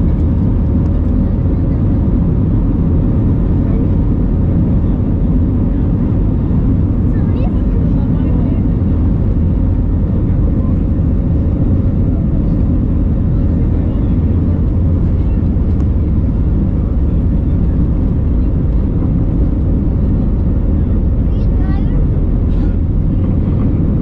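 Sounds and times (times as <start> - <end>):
aircraft cabin engine rumble: 0.0 - 24.0.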